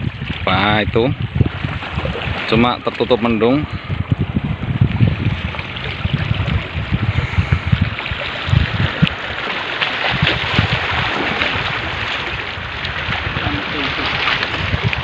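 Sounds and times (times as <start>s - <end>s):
small waves washing at shore: 0.0s - 15.0s
wind buffeting microphone: 0.0s - 15.0s.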